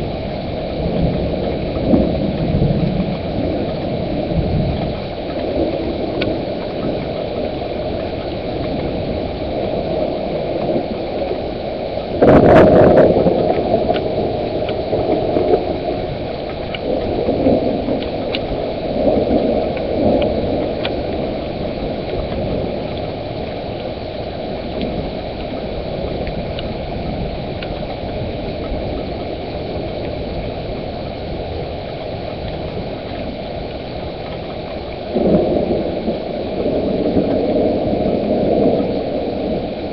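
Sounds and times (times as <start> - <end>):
rain hissing: 0.0 - 39.9
thunder crack and rumble: 0.0 - 39.9.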